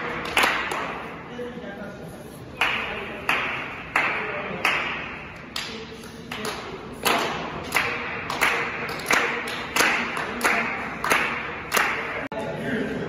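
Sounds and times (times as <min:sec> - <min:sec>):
clap-like percussion hits: 0:00.0 - 0:01.2, 0:02.6 - 0:12.2.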